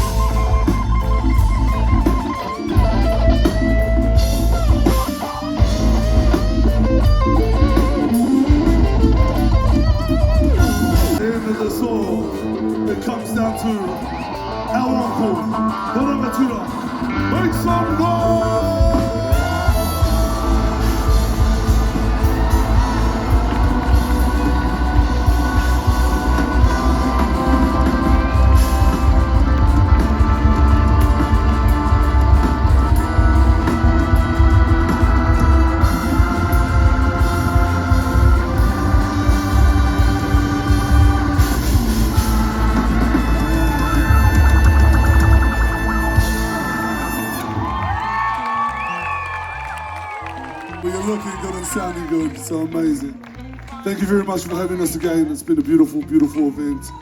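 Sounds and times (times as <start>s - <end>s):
heavy bass line: 0.0s - 13.5s, 14.3s - 48.3s
electric guitar lead: 0.0s - 50.7s
live band playing: 0.0s - 57.0s.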